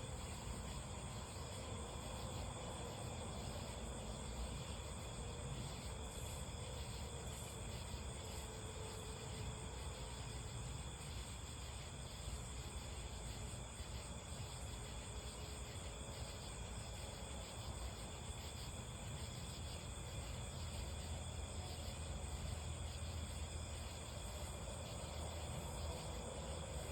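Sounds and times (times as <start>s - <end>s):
crickets and insects chirring: 0.0s - 26.9s.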